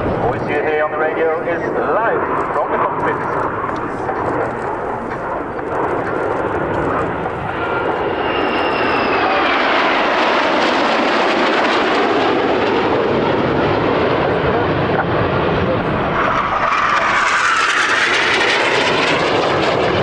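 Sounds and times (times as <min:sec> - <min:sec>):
aircraft engine flying past: 0:00.0 - 0:20.0.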